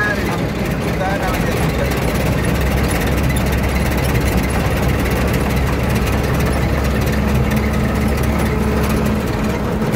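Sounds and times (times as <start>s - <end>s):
road and wind noise: 0.0s - 9.9s
truck engine running: 0.0s - 9.9s.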